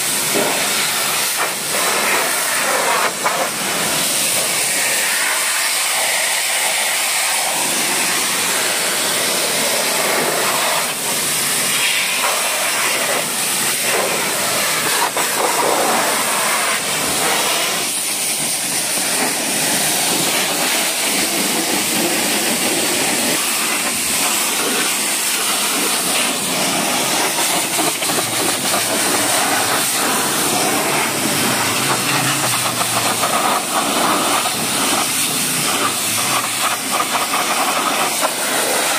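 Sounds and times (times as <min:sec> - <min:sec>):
pressure washer jet hissing: 0:00.0 - 0:38.9.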